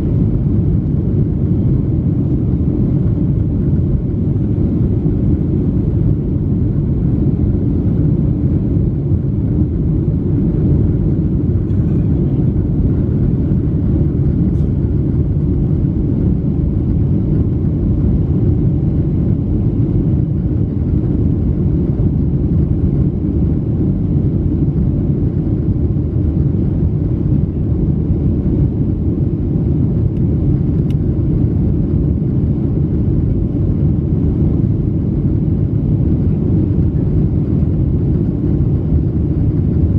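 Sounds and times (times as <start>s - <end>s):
airplane cabin rumble: 0.0s - 39.9s
jet engines: 0.0s - 39.9s.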